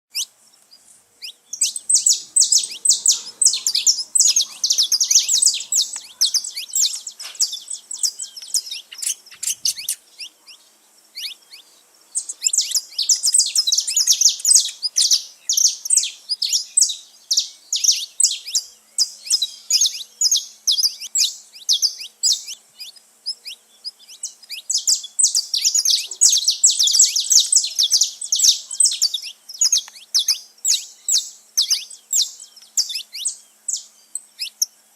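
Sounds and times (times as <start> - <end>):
finches chirping: 0.1 - 34.9.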